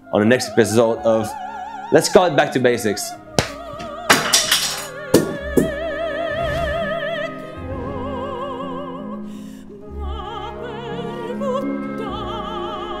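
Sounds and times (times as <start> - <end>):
operatic voice singing: 0.0 - 13.0.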